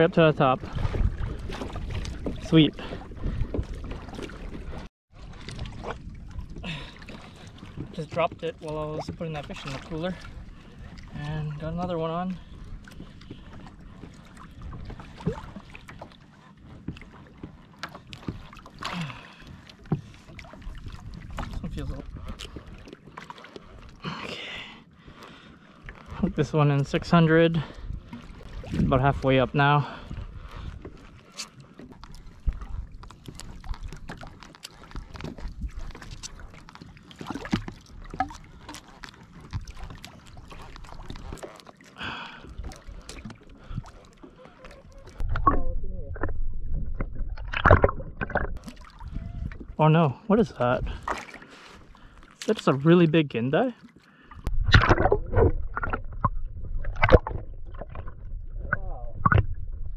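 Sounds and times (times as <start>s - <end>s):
water around a kayak: 0.0s - 59.9s
wind: 0.0s - 59.9s.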